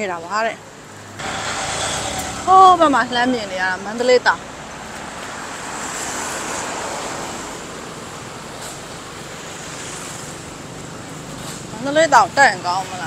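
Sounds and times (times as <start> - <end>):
vehicles passing: 0.0 - 13.0.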